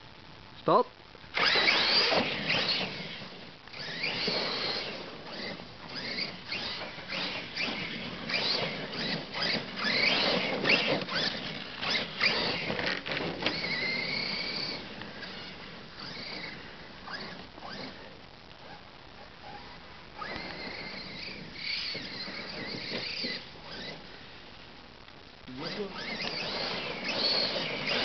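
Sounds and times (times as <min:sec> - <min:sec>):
electric motor whining: 0:01.3 - 0:18.8, 0:19.4 - 0:24.3, 0:25.5 - 0:28.0
tyre and drivetrain noise: 0:01.3 - 0:28.0.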